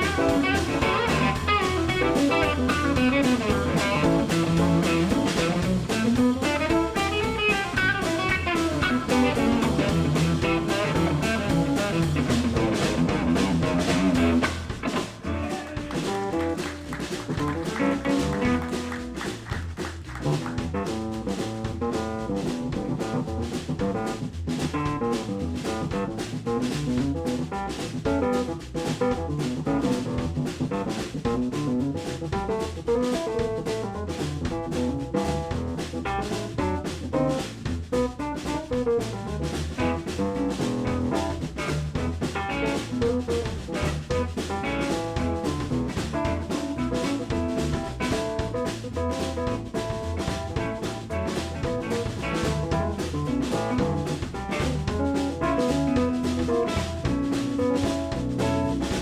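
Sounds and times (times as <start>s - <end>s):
drums driving beat: 0.0s - 59.0s
live blues band: 0.0s - 59.0s.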